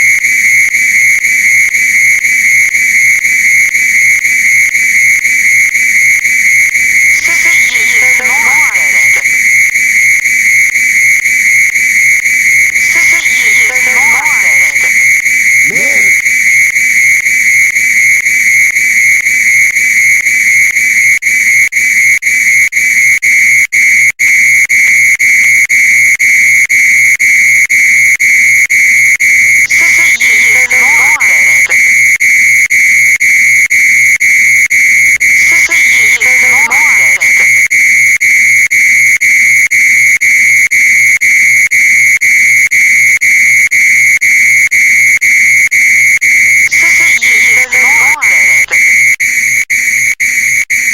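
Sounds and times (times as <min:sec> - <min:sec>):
fire alarm tone: 0:00.0 - 0:50.9.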